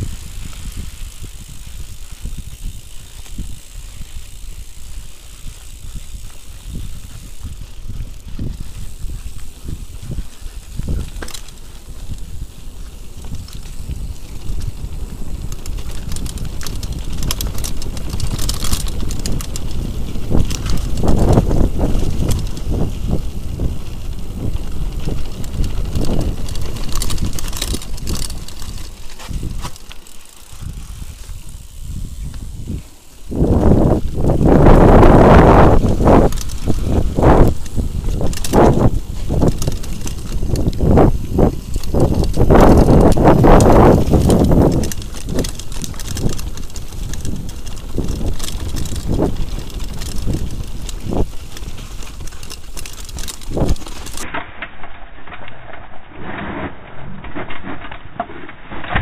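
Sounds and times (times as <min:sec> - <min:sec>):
bike rattling over stones: 0:00.0 - 0:59.0
tyres rumbling on dirt: 0:04.8 - 0:54.4.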